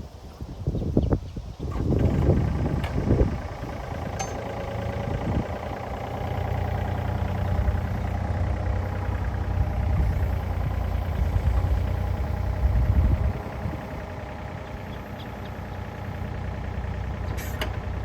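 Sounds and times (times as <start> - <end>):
diesel engine running: 1.6 - 18.0.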